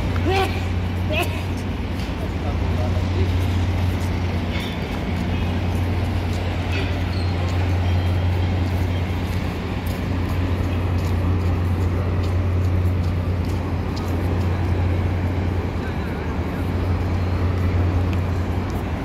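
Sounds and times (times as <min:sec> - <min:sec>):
idling vehicle engines hum: 0:00.0 - 0:19.0.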